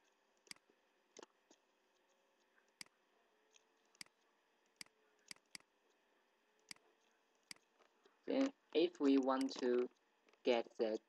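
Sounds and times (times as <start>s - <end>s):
computer mouse clicking: 0.0s - 6.0s, 6.6s - 11.0s.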